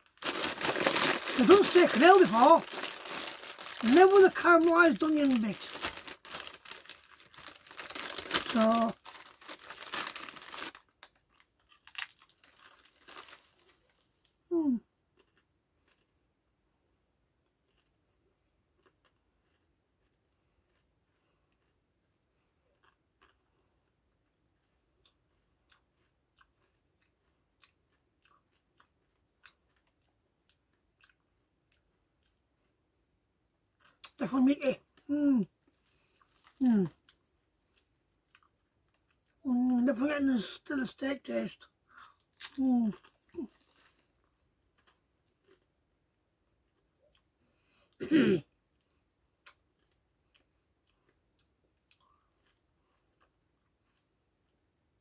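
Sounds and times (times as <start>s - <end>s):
potato crisps being chewed: 0.0s - 14.3s, 15.1s - 16.4s, 17.4s - 32.9s, 33.7s - 45.8s, 46.4s - 48.0s, 48.7s - 55.0s.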